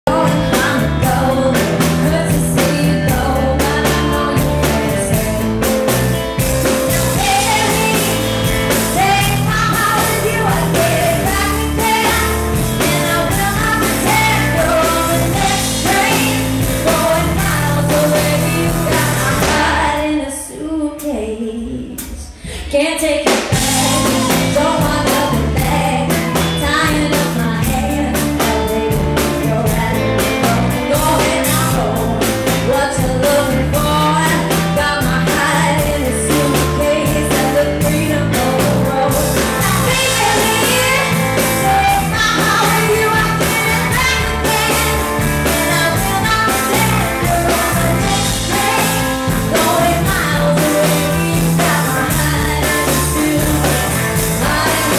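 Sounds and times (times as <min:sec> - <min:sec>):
band with drum kit: 0:00.0 - 0:20.4, 0:21.0 - 0:54.9
woman singing into microphone: 0:00.0 - 0:54.9.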